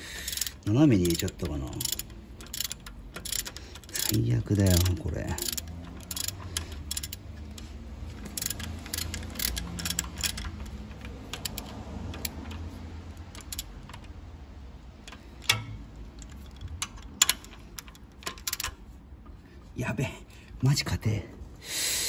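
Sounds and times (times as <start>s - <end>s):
socket wrench clicking: 0.0s - 14.2s, 14.9s - 18.8s.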